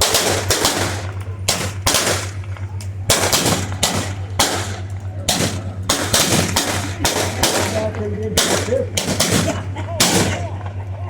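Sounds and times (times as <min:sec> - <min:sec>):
guns firing blanks with echo: 0:00.0 - 0:11.0.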